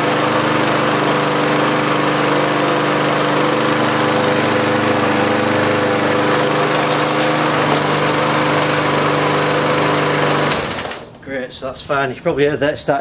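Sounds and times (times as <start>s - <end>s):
lawnmower engine running: 0.0s - 11.1s.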